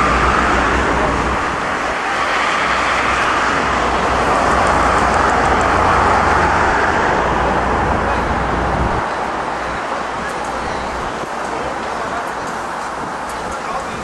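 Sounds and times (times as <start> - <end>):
low traffic rumble: 0.0 - 14.0
passing vehicles: 0.0 - 14.0.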